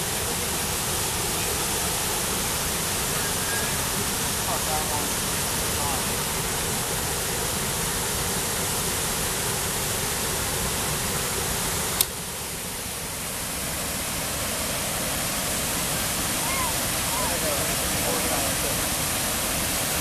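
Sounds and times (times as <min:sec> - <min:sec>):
waterfall and rapids rushing: 0:00.0 - 0:20.0.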